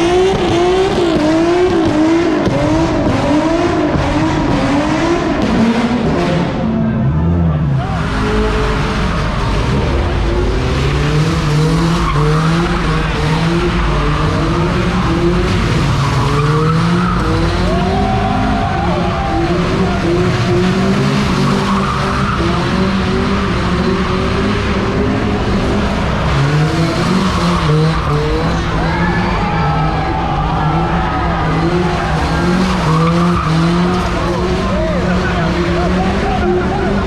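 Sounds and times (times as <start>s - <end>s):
car engine revving hard: 0.0s - 37.0s.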